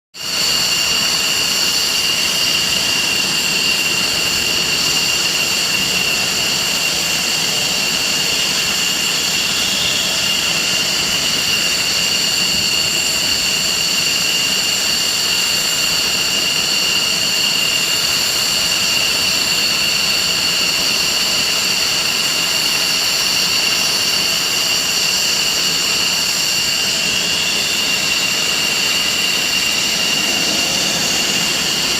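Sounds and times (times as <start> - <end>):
jet engine whine: 0.2 - 31.9.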